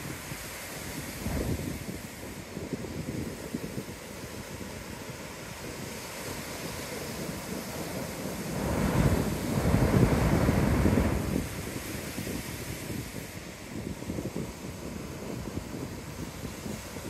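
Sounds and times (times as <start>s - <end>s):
ocean wave breaking: 0.0s - 17.0s
wind noise on microphone: 0.0s - 17.0s.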